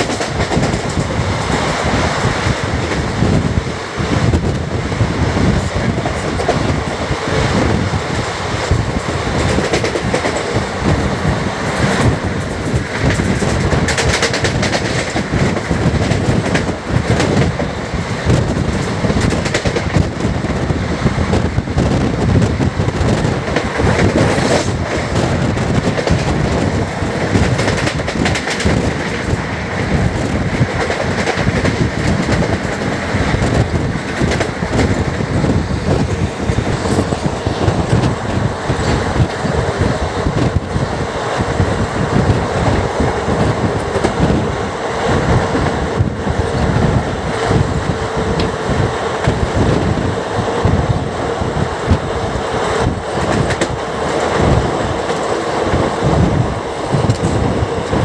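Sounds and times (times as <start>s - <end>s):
train coaches rumbling: 0.0s - 58.0s.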